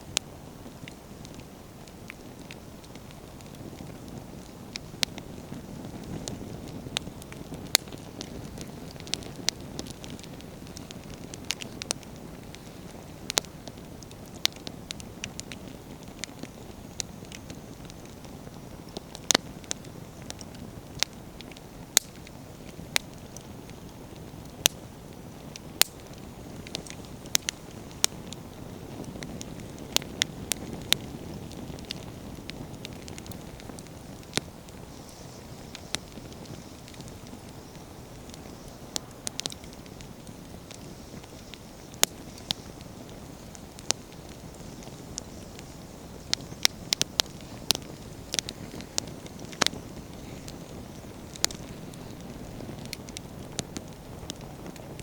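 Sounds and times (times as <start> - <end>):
logs popping and crackling: 0.0 - 55.0
low rush of flames: 0.0 - 55.0.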